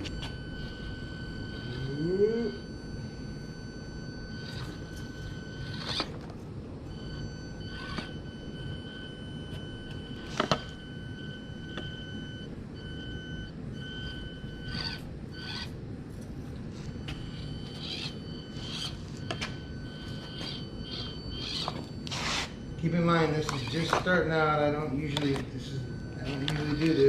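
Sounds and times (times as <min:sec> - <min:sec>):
electric motor high whine: 0:00.0 - 0:27.0.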